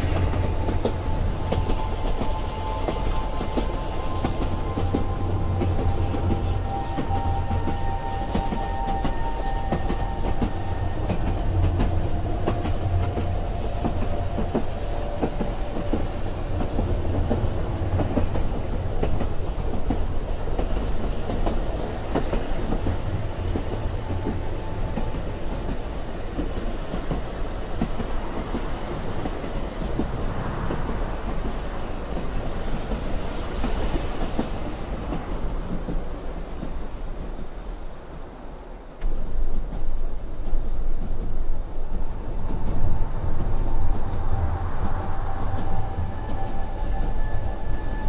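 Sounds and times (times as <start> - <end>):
train rumble: 0.0 - 48.0.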